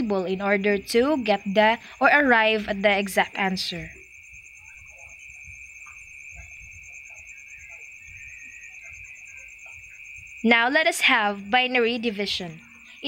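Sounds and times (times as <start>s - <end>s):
faint scattered sounds: 0.0s - 13.0s
steady high-pitched whine: 0.0s - 13.0s.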